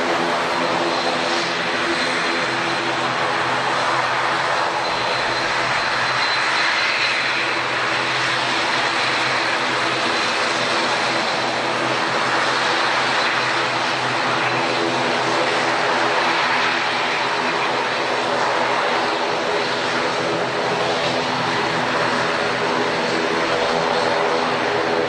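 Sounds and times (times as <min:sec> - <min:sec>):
airliner engines running: 0:00.0 - 0:25.0.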